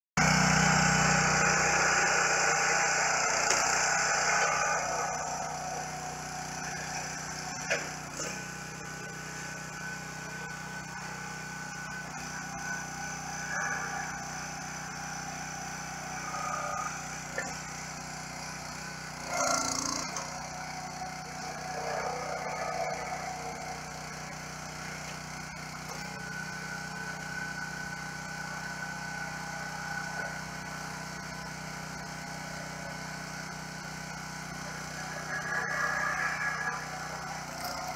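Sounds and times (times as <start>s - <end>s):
log splitter engine running: 0.2s - 37.9s.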